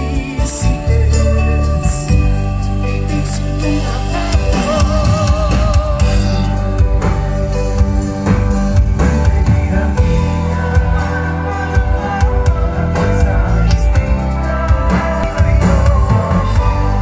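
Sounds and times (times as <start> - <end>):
bass line: 0.0 - 17.0
electric guitars: 0.0 - 17.0
person singing: 0.0 - 17.0.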